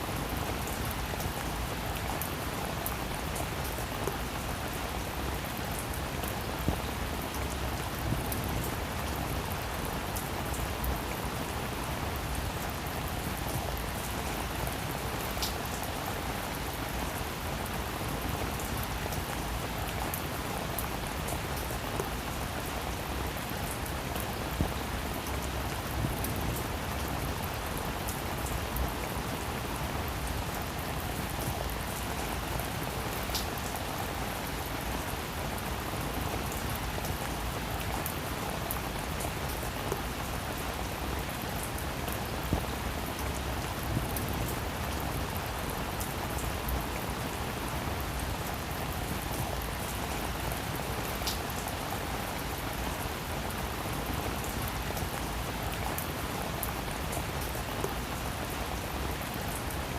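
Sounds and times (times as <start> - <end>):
rain on a roof: 0.0 - 59.9.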